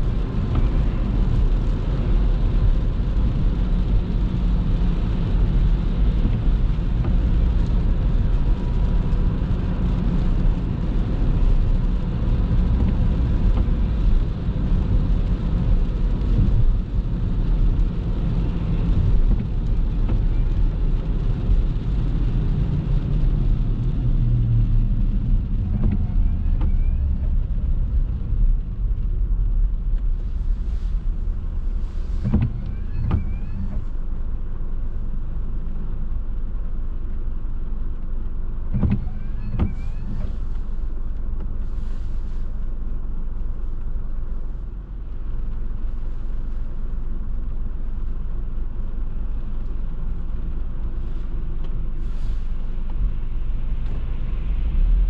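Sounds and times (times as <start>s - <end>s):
car engine rumble: 0.0s - 55.0s
tyres on road: 0.0s - 55.0s.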